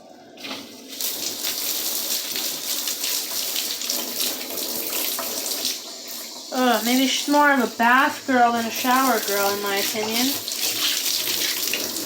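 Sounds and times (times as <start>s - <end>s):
shower spray into bathtub: 0.4s - 12.0s.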